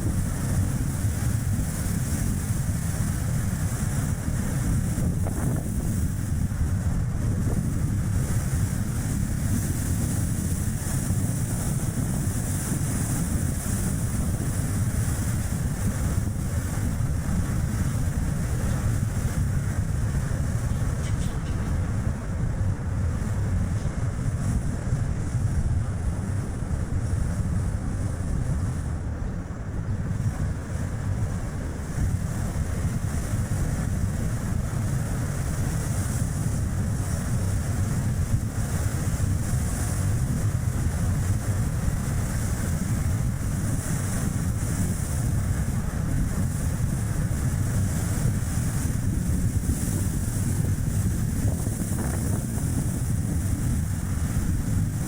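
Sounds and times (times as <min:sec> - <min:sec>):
car tyre and road noise: 0:00.0 - 0:55.0
wind buffeting microphone: 0:00.0 - 0:55.0.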